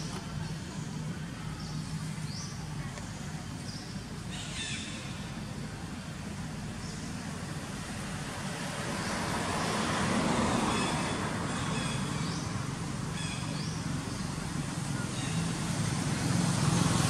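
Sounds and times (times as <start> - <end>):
road vehicle passing: 0.0 - 17.0.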